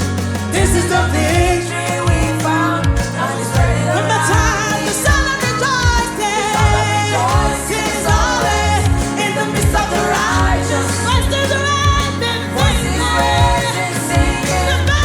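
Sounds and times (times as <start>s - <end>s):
song with lead singer: 0.0s - 15.0s
steady beat and bass line: 0.0s - 15.0s.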